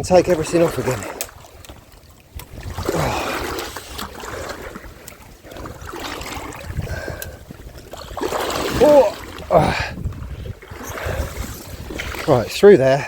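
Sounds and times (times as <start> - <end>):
stream flowing: 0.0 - 13.0
water sloshing: 0.0 - 13.0.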